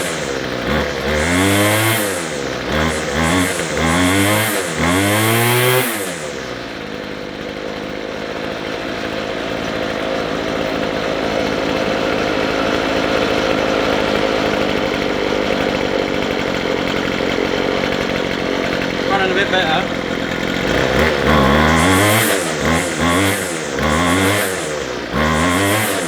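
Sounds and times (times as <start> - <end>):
strimmer engine revving and idling: 0.0 - 26.0.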